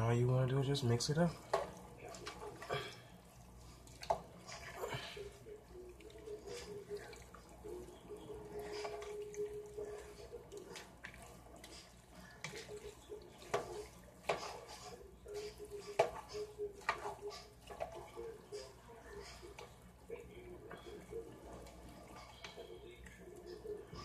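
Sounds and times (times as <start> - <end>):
wet squishing of spaghetti: 1.0 - 24.0.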